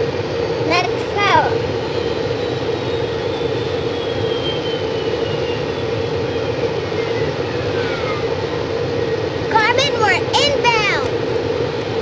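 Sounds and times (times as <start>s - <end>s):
engine-like drone: 0.0s - 12.0s.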